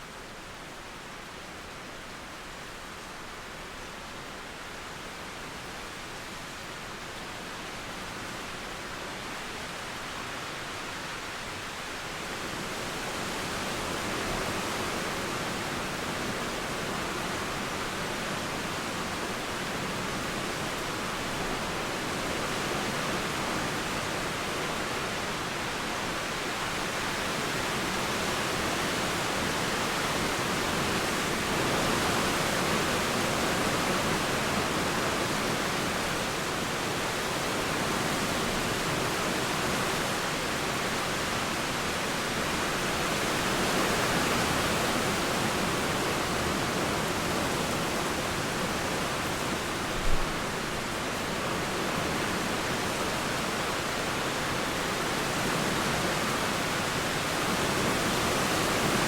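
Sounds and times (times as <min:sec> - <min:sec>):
river flowing: 0:00.0 - 0:59.0
steady rain falling: 0:00.0 - 0:59.0.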